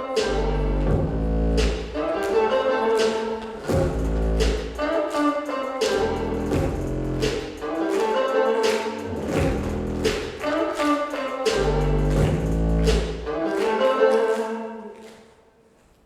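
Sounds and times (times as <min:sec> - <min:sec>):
dance music with orchestral layers: 0:00.0 - 0:14.4.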